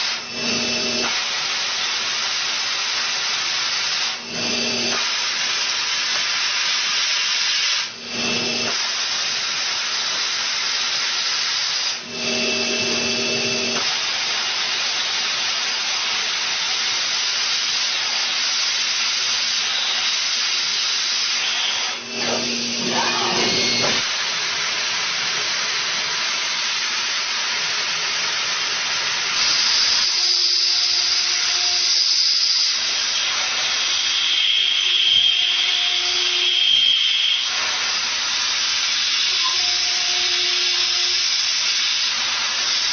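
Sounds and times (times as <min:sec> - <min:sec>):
cnc machine cutting metal: 0:00.0 - 0:27.2, 0:28.0 - 0:42.9.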